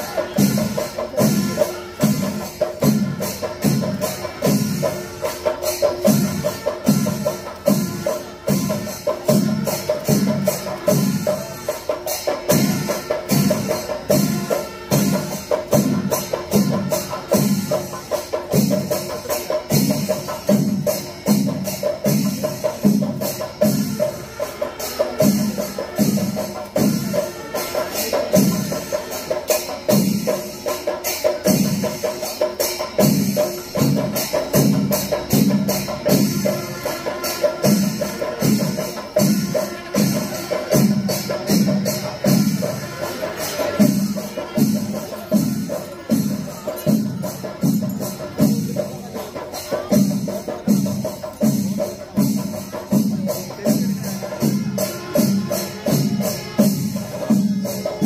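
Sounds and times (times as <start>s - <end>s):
small cymbals clashing: 0.0s - 58.0s.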